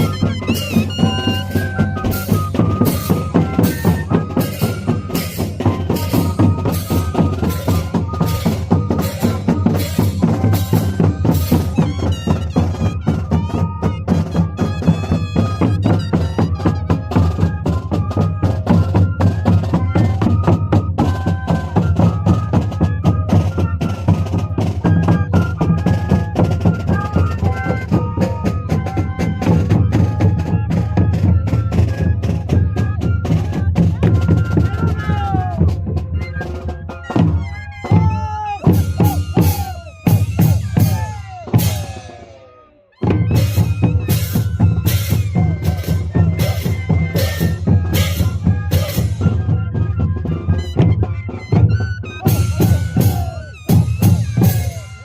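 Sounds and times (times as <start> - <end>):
cane flutes melody: 0.0 - 55.0
drumbeats: 0.0 - 55.0.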